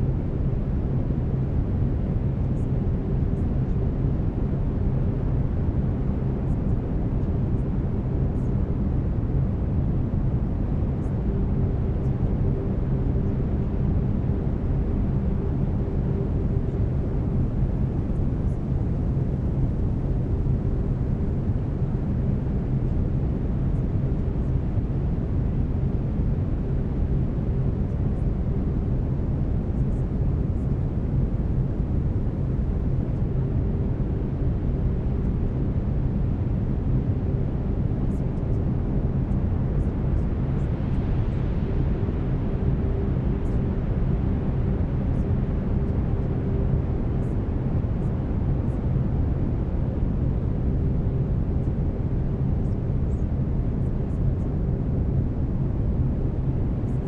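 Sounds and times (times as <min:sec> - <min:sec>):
brown noise rumbling hiss: 0:00.0 - 0:57.0.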